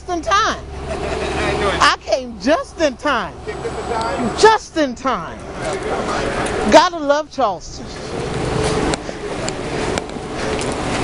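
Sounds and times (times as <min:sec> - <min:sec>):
motor vehicle running: 0:00.0 - 0:11.0.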